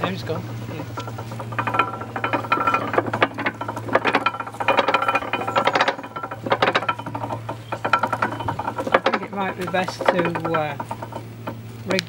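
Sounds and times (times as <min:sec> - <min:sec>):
ratchet pawl clicking: 0:00.0 - 0:12.0.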